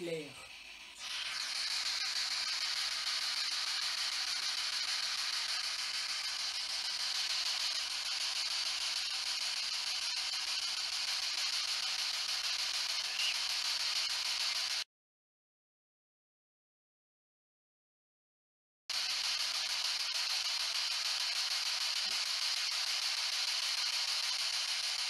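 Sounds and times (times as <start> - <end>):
radio static hiss: 0.0 - 14.8, 18.9 - 25.0.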